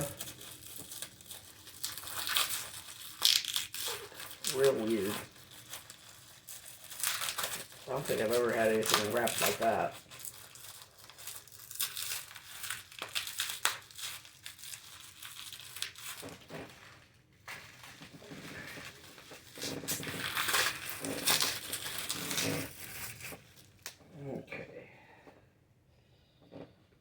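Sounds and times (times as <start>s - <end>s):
plastic packaging crinkling: 0.0s - 24.0s.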